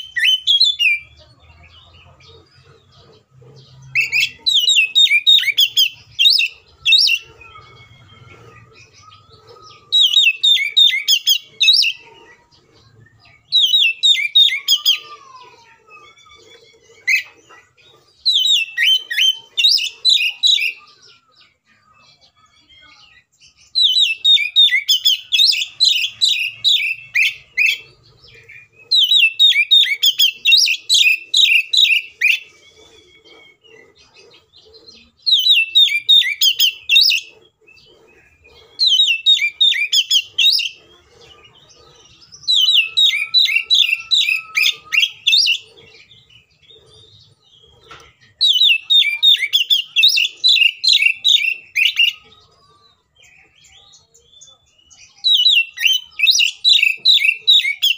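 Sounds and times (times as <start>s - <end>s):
bird singing whistled notes: 0.0s - 1.2s, 3.6s - 12.5s, 13.1s - 15.4s, 18.1s - 21.6s, 22.2s - 40.8s, 42.0s - 57.9s.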